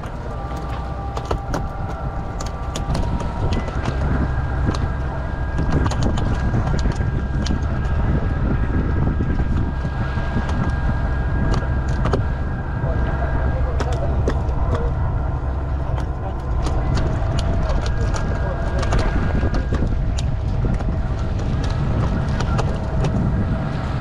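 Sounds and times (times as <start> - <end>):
boat motor running: 0.0 - 24.0
wind buffeting microphone: 0.0 - 24.0.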